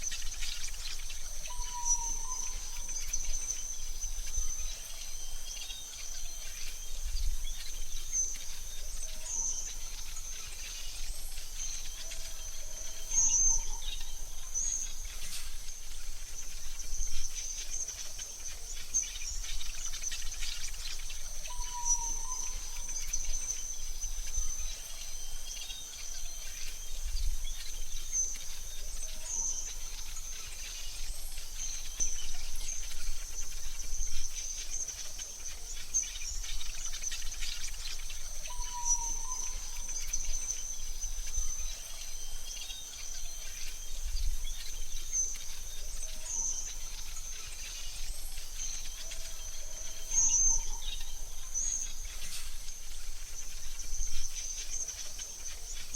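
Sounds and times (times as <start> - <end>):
high-pitched insect trill: 0.0 - 55.9.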